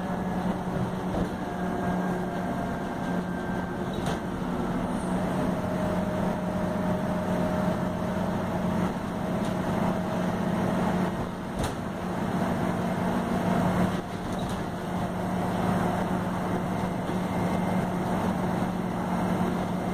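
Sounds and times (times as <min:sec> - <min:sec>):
bus engine drone: 0:00.0 - 0:19.9.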